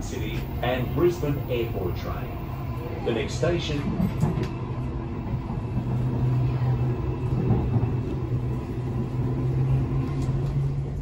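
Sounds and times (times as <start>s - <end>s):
train carriage rumble: 0.0s - 11.0s.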